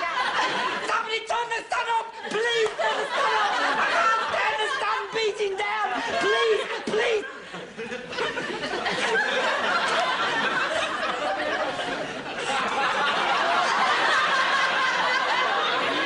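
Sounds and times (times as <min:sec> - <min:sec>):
audience laughing: 0:00.0 - 0:01.1, 0:02.1 - 0:16.0.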